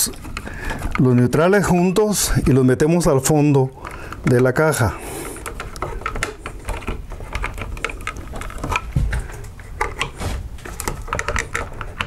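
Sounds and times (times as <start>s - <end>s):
wires clicking and scraping: 0.0s - 12.0s.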